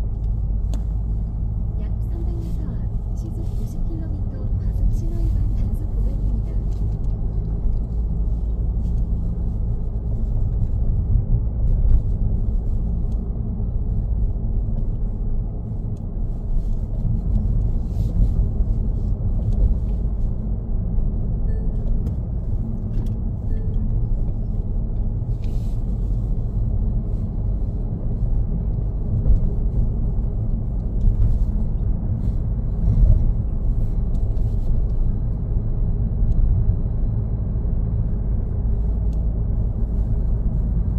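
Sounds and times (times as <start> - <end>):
car driving on road: 0.0 - 40.9.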